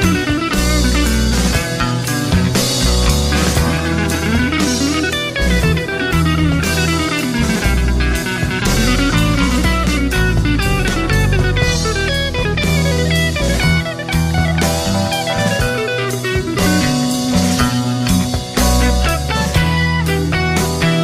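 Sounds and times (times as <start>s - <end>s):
drum kit with cymbal crashes: 0.0s - 21.0s
electric bass line: 0.0s - 21.0s
electric guitar: 0.0s - 21.0s
lead instrument playing fast runs: 0.0s - 21.0s.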